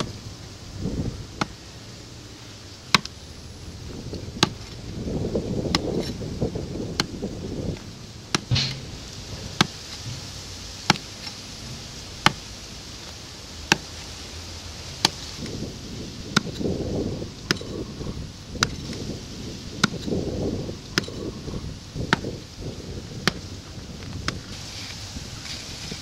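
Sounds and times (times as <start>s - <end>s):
low rustling: 0.0s - 26.0s
pick striking earth: 1.0s - 1.6s, 2.9s - 3.2s, 3.8s - 14.2s, 14.8s - 26.0s.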